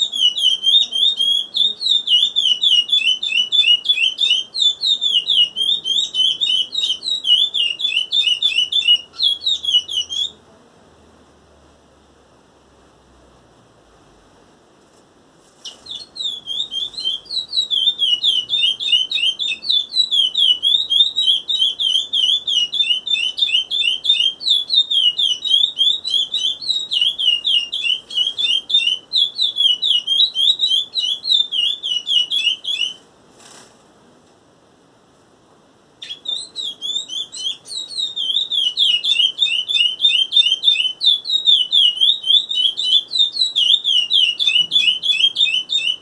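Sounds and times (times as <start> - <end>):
finch singing whistled notes: 0.0 - 10.4, 15.6 - 33.0, 36.0 - 46.0.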